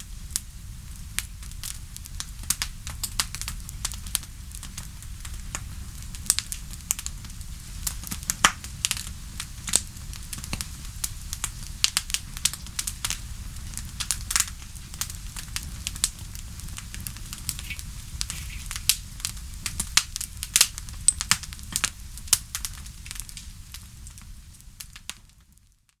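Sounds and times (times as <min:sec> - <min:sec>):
fire popping and snapping: 0:00.0 - 0:26.0
low rumble of burning fire: 0:00.0 - 0:26.0.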